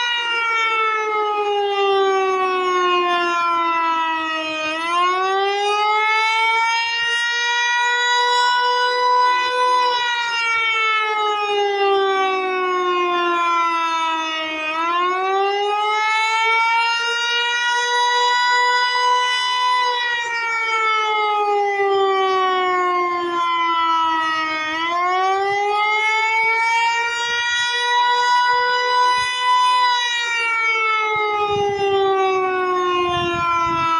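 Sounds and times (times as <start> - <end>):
warning siren wailing: 0.0 - 33.9.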